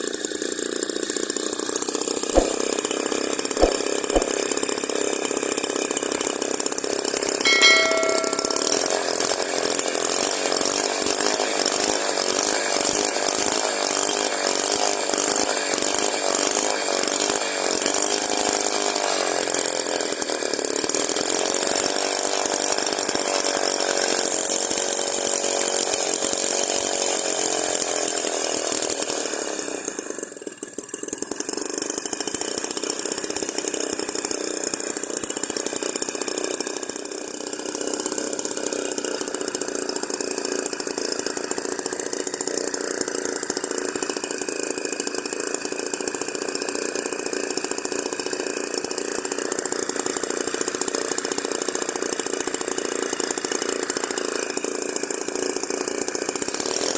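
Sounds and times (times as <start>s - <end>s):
small two-stroke engine running: 0.0s - 56.9s.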